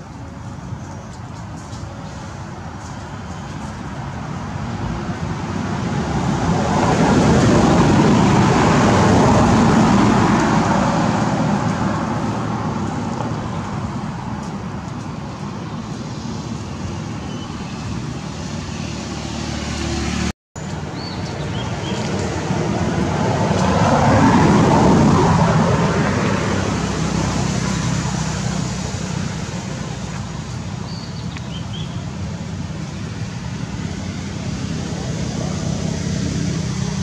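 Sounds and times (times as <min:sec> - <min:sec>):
road vehicle passing by: 0:00.0 - 0:37.0.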